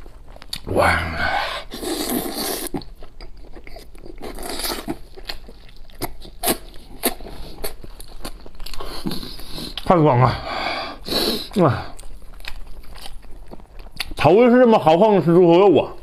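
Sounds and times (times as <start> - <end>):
person chewing meat: 0.0 - 10.0, 10.9 - 14.4.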